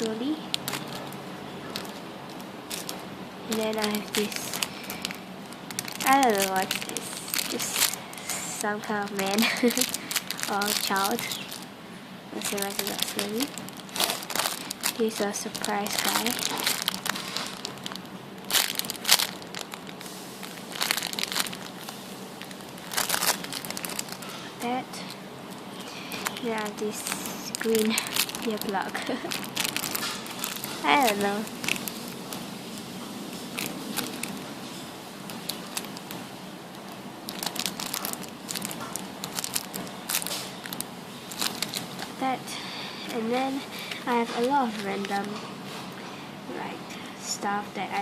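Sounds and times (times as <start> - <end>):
foam toy crinkling and squeezing: 0.0 - 45.8.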